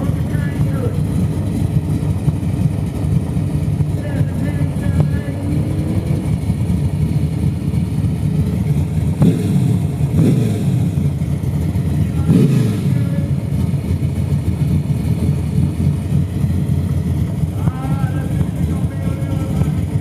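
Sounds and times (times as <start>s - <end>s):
car engine choppy idle: 0.0s - 20.0s
engine throttle blips: 0.0s - 20.0s.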